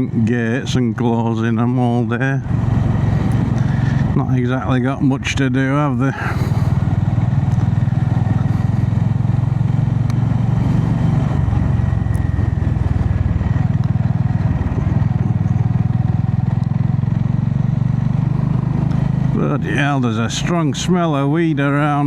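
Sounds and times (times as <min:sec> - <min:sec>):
motorcycle engine droning: 0:00.0 - 0:22.0
road and wind noise: 0:00.0 - 0:22.0.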